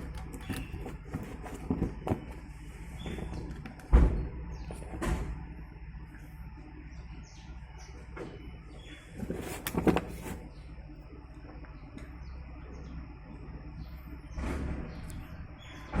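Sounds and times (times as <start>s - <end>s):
small birds chirping: 0.0s - 5.0s, 6.1s - 16.0s.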